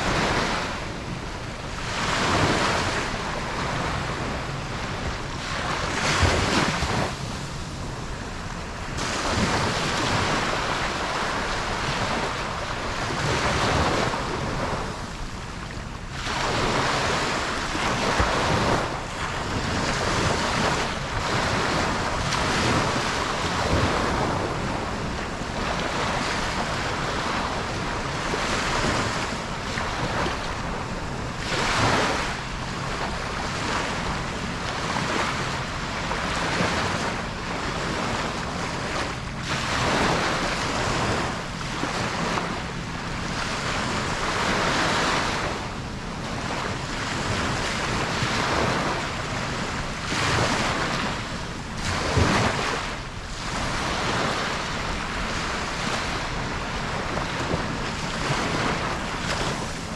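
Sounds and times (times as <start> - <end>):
ocean waves breaking on beach: 0.0 - 59.9
wind on microphone: 0.0 - 59.9.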